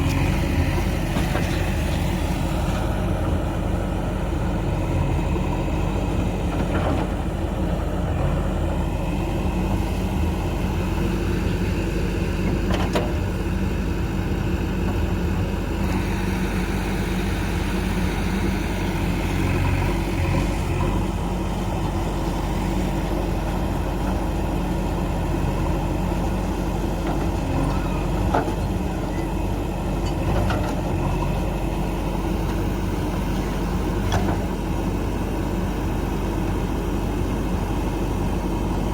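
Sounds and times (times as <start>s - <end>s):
backhoe diesel engine: 0.0s - 38.9s.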